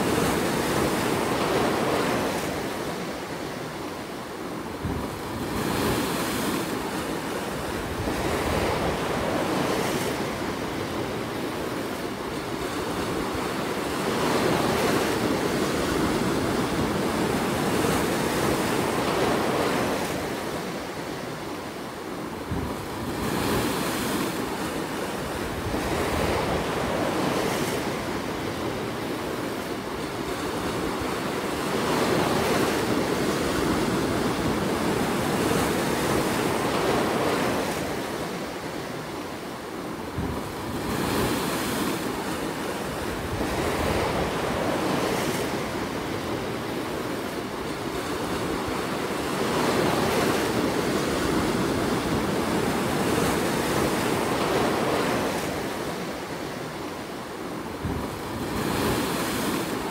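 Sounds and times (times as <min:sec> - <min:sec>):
ocean surf washing over rocks: 0:00.0 - 0:59.9.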